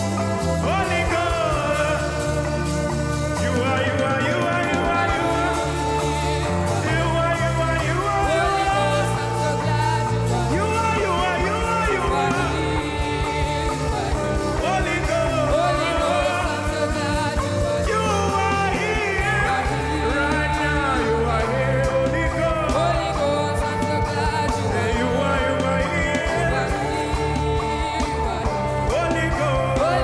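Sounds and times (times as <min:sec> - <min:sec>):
drums: 0:00.0 - 0:30.0
keyboard: 0:00.0 - 0:30.0
person singing: 0:00.0 - 0:30.0.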